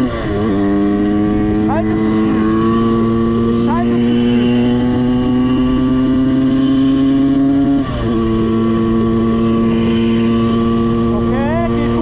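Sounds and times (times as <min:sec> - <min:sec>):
moped two-stroke engine running: 0:00.0 - 0:12.0.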